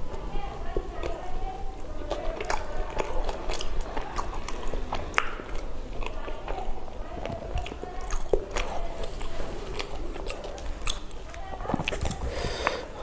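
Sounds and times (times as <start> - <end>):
close-miked chewing and mouth clicks: 0.0 - 13.0.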